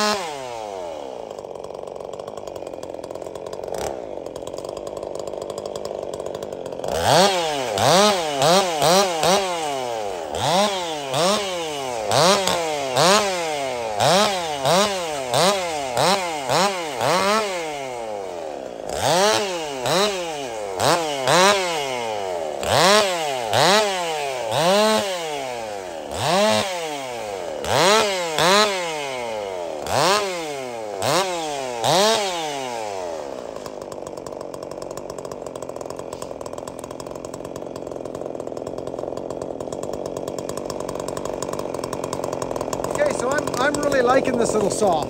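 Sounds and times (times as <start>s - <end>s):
chainsaw idling: 0.0s - 45.0s
chainsaw revving: 0.0s - 45.0s.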